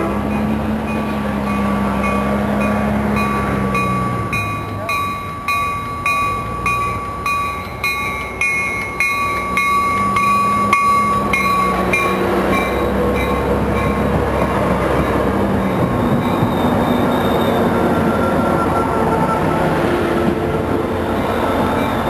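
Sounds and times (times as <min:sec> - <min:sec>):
train bell ringing: 0:00.0 - 0:22.0
train passing and rumbling: 0:00.0 - 0:22.0.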